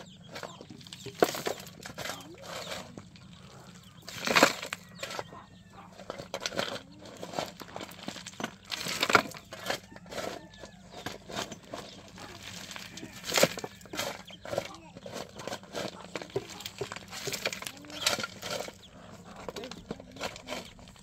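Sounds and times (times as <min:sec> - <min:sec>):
shovel scraping stone rubble: 0:00.0 - 0:21.0
stones clattering into wheelbarrow: 0:00.0 - 0:21.0.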